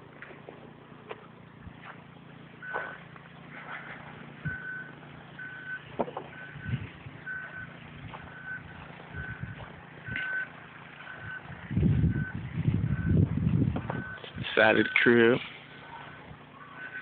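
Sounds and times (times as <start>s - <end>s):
faint low engine hum: 0.0s - 17.0s
truck reversing alarm beeping: 2.6s - 17.0s.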